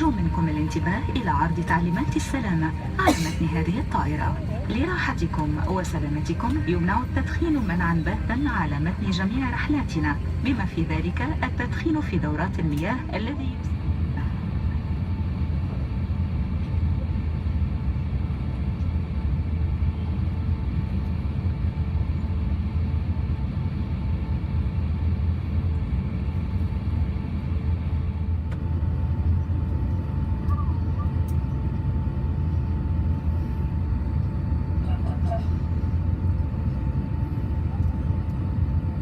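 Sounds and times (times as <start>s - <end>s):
airliner cabin rumble: 0.0s - 39.0s
faint steady hum: 0.0s - 39.0s.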